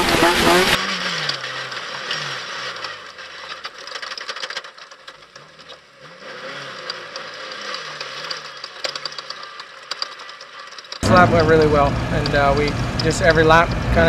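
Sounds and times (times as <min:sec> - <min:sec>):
engines running: 0:00.0 - 0:14.0.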